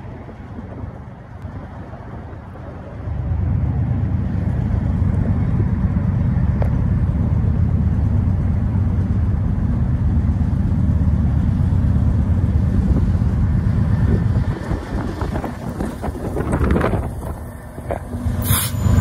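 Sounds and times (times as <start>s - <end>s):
diesel locomotive rumbling: 0.0s - 19.0s.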